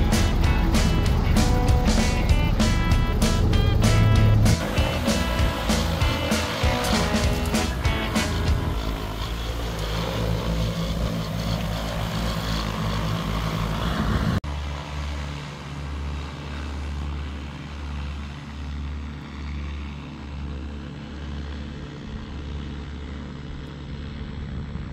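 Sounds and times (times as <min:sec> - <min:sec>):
distant drone pulsing hum: 0:00.0 - 0:24.9
drone propellers droning: 0:00.0 - 0:24.9.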